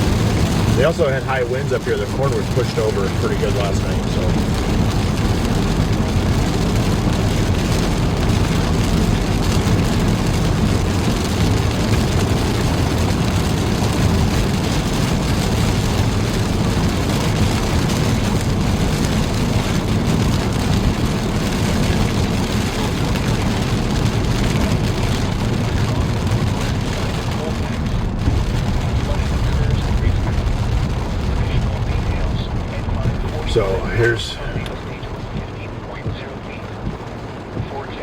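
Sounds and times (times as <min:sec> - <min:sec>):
car cabin road noise: 0:00.0 - 0:38.0.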